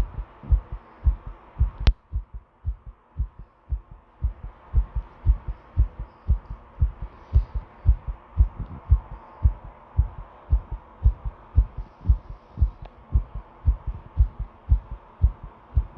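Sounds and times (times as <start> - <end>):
faint steady hum: 0.0 - 15.9
heart beating: 0.0 - 15.9.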